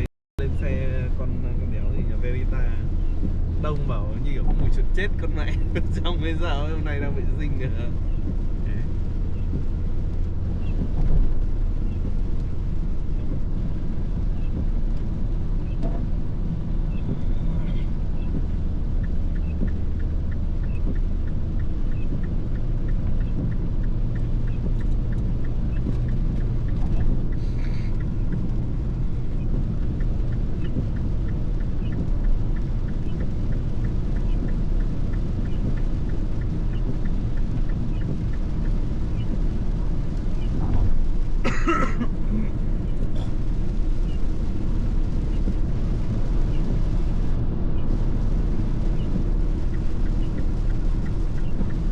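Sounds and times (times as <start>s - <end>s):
car engine and road rumble: 0.0s - 51.9s.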